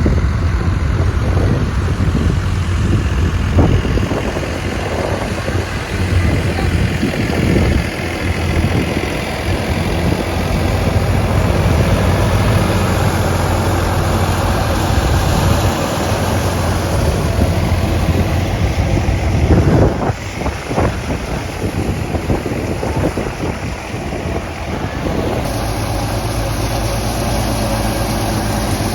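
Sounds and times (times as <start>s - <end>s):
thresher droning: 0.0s - 28.9s.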